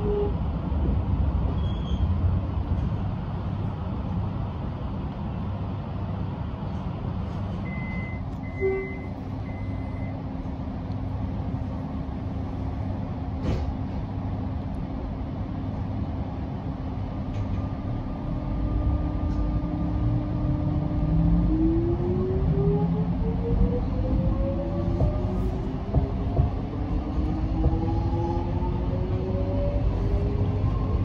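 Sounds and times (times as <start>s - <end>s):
train rumble and electrical hum: 0.0s - 31.0s.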